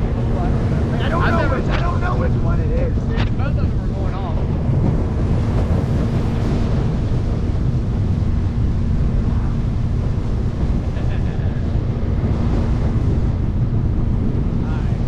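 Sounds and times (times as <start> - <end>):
boat motor running: 0.0 - 15.0
wind buffeting microphone: 0.0 - 15.0.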